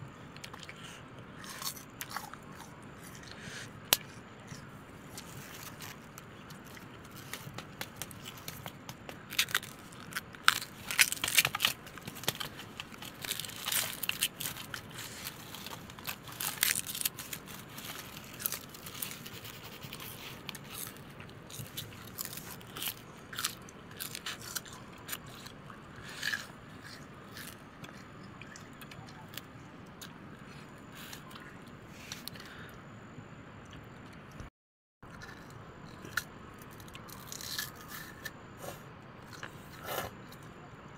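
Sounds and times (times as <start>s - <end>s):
crunchy food being chewed: 0.1s - 32.8s, 33.6s - 40.9s.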